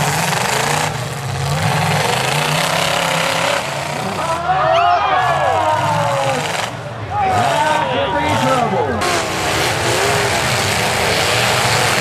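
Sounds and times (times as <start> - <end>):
car engines running and revving: 0.0 - 12.0.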